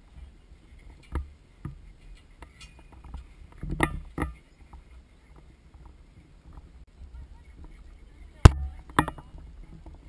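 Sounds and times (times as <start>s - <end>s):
low rumble of handling noise: 0.0s - 10.0s.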